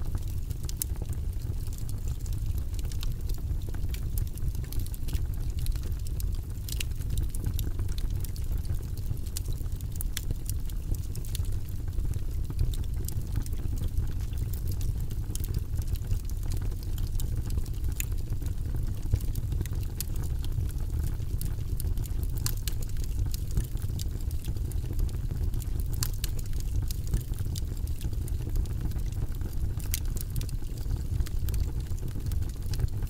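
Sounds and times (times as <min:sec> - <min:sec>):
fire crackling and popping: 0:00.0 - 0:33.0
logs burning in fireplace: 0:00.0 - 0:33.0.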